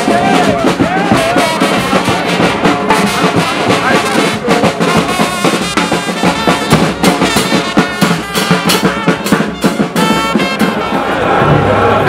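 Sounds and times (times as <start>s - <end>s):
bass drum and cymbals beat: 0.0s - 11.9s
brass horns holding notes: 0.0s - 12.0s.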